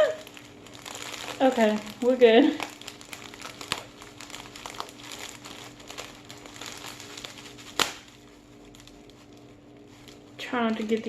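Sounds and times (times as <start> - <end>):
foam beads crinkling and crackling: 0.0 - 11.0.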